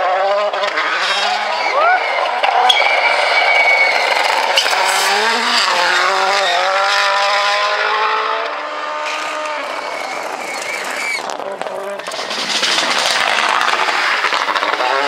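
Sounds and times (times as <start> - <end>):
rally car engine at full throttle: 0.0 - 15.0.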